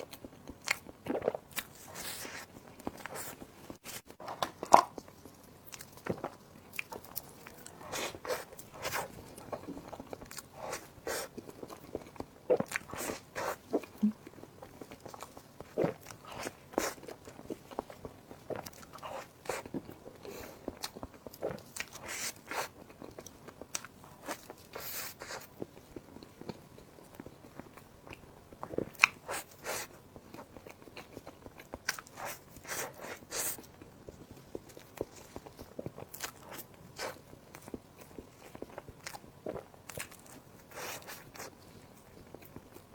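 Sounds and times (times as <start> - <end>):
person chewing and crunching: 0.1 - 3.4, 4.4 - 42.9.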